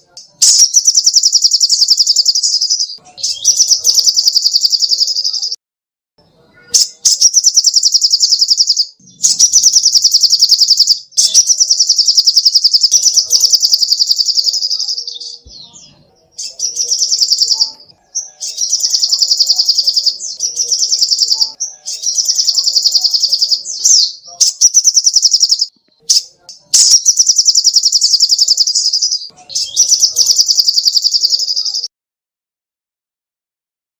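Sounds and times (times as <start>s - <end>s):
bird singing high trills: 0.2s - 5.5s, 6.7s - 31.9s.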